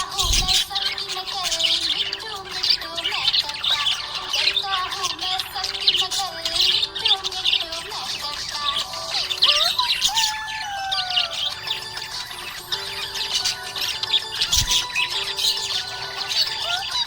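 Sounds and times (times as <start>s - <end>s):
background melody: 0.0s - 17.0s
budgerigars chirping: 0.0s - 17.0s.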